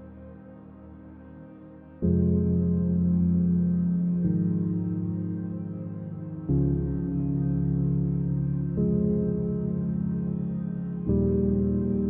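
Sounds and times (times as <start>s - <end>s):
soft ambient music: 0.0s - 12.0s.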